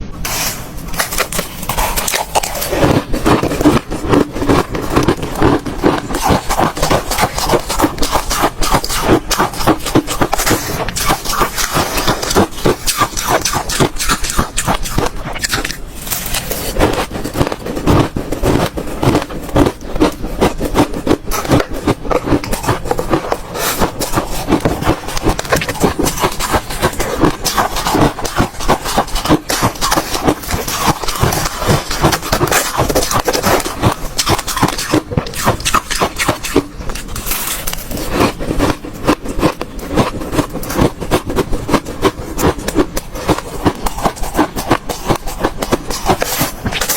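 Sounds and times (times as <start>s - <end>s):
ice crunching between teeth: 1.0s - 46.9s.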